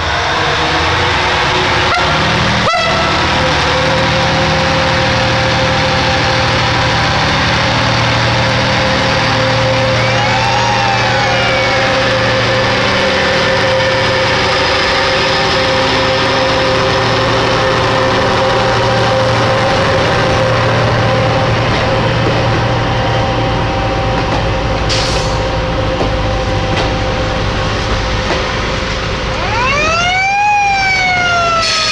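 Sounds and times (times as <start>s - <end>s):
siren wail: 0.0s - 28.0s, 29.0s - 31.9s
steady whine: 0.0s - 31.7s
diesel engines running: 0.0s - 31.9s.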